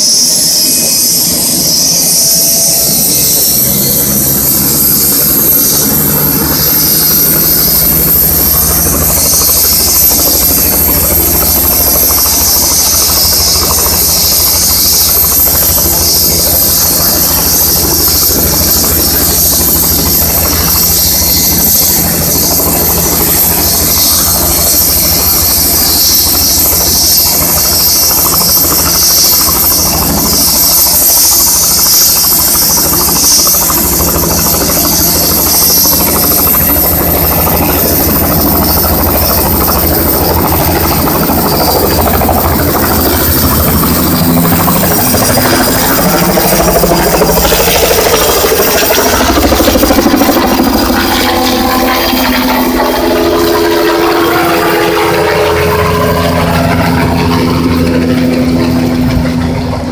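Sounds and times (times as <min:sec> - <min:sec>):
helicopter rotor beating: 0:00.0 - 0:59.9
turbine whine and hiss: 0:00.0 - 0:59.9.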